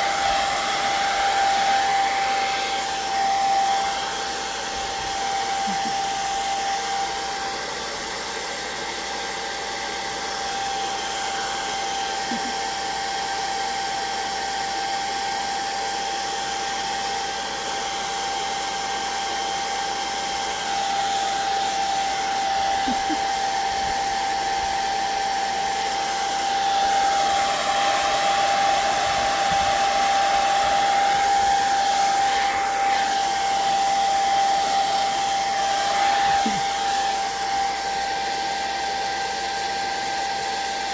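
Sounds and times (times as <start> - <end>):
hot-air dryer blowing: 0.0 - 40.9.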